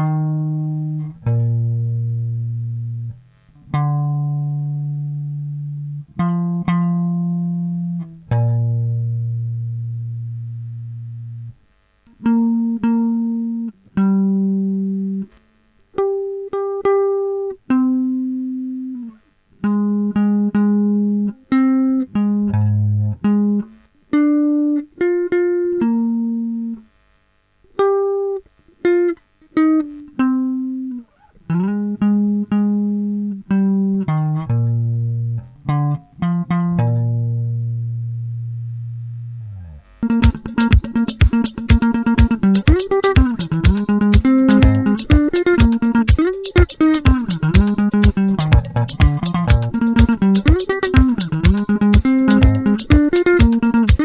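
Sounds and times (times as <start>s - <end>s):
guitar plucking slow melody: 0.0s - 15.4s, 16.0s - 26.9s, 27.8s - 54.0s.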